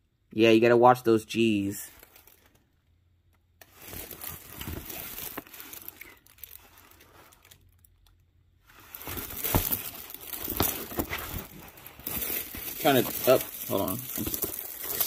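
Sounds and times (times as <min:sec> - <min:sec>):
plastic film crinkling: 0:01.9 - 0:02.7, 0:03.6 - 0:15.0.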